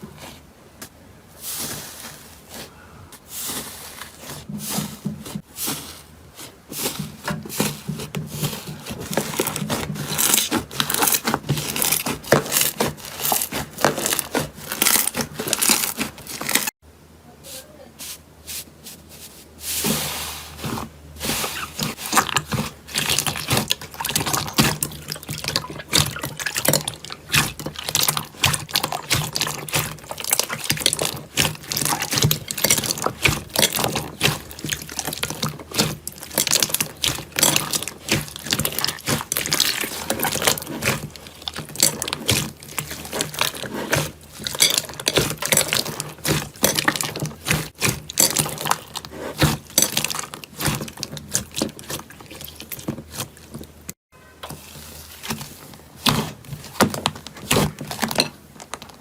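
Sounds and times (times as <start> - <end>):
slime squelching: 1.3 - 16.8, 18.0 - 59.0.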